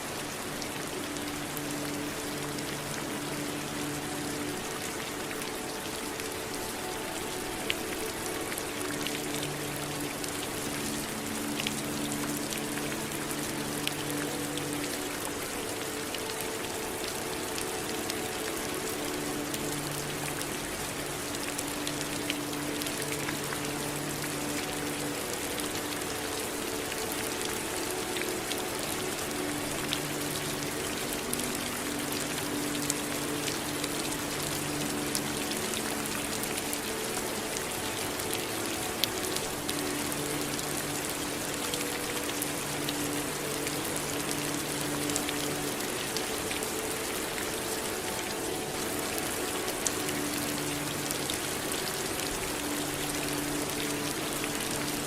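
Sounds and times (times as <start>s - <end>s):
raindrops striking a surface: 0.0s - 55.0s
running water: 0.0s - 55.0s
steady rain hiss: 0.0s - 55.0s.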